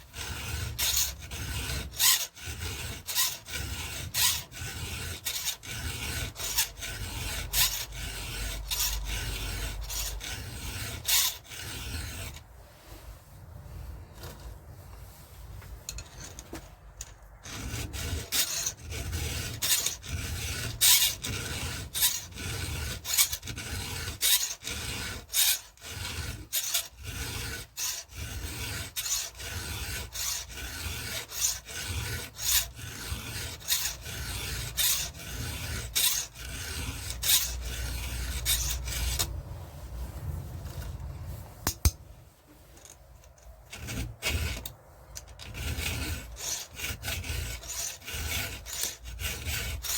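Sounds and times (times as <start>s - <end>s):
file rasping on chainsaw chain: 0.0s - 12.5s, 17.0s - 39.4s, 42.8s - 49.9s.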